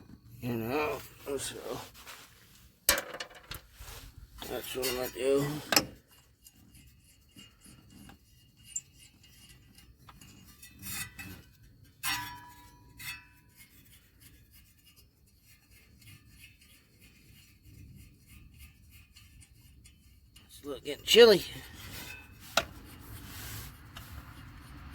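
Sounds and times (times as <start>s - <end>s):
hand tools scraping metal: 0.0s - 24.9s.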